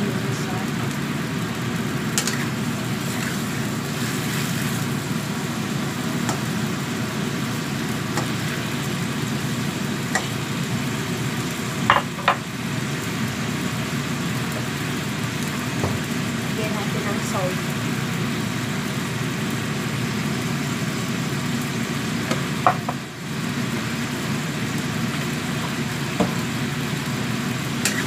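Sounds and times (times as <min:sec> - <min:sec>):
gas burner: 0:00.0 - 0:28.0
range hood fan rushing: 0:00.0 - 0:28.0.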